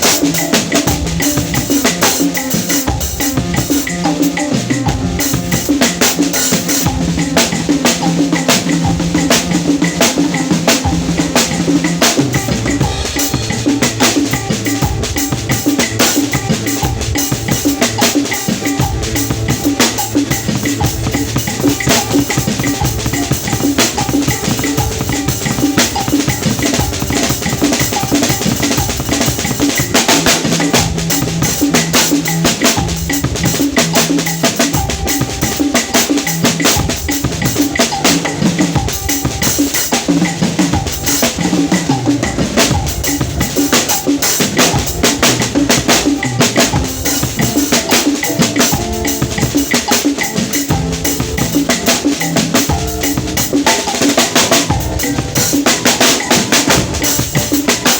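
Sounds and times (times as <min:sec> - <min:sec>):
drum kit playing: 0:00.0 - 0:57.9.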